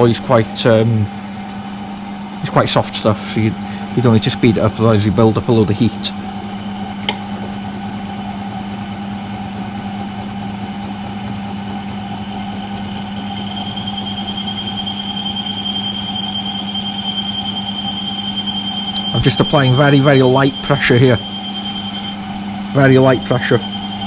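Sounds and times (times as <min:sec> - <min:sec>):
milling machine hum: 0:00.0 - 0:24.0
thin high cutting whine: 0:00.0 - 0:24.0.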